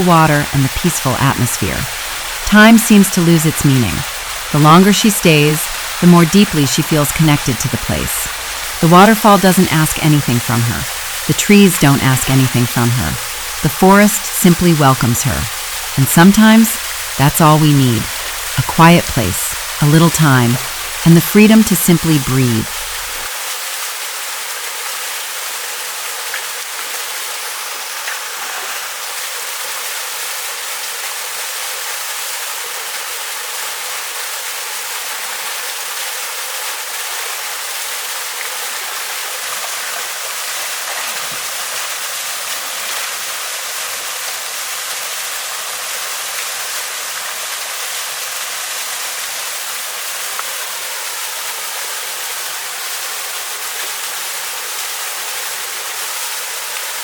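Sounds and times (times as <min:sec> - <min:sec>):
waterfall pouring over rocks: 0:00.0 - 0:57.0.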